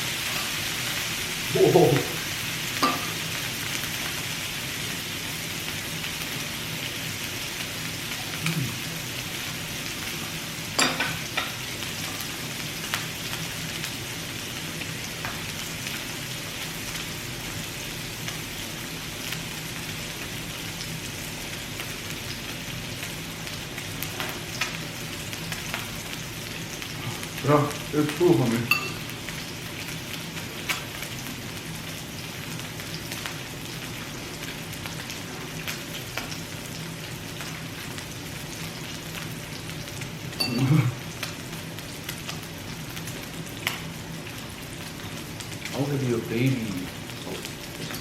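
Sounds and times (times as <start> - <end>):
meat sizzling on a grill: 0.0 - 48.0.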